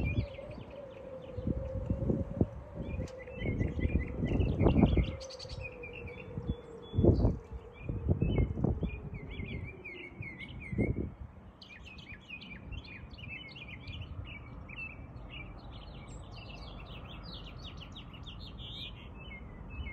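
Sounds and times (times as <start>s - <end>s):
wind rumble on microphone: 0.0s - 19.9s
small birds chirping: 2.8s - 19.9s.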